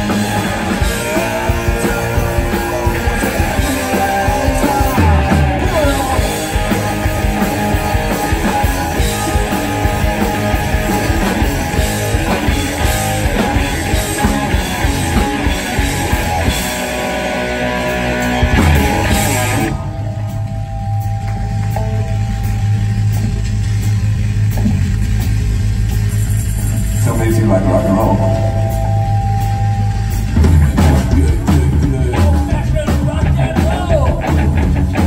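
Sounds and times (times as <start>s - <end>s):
bass guitar: 0.0s - 35.0s
drum kit: 0.0s - 35.0s
electric guitar: 0.0s - 35.0s.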